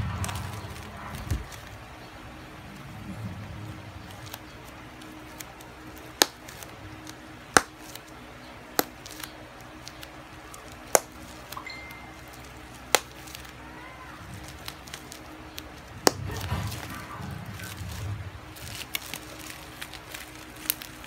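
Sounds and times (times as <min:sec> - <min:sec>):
bubble wrap popping: 0:00.0 - 0:21.0.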